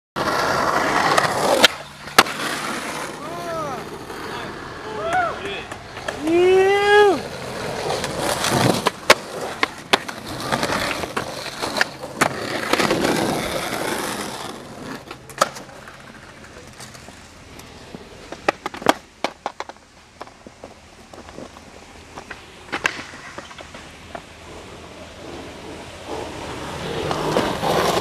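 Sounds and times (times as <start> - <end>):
skateboard clacking on ground: 0.2 - 28.0
skateboard wheels rolling on concrete: 0.2 - 28.0.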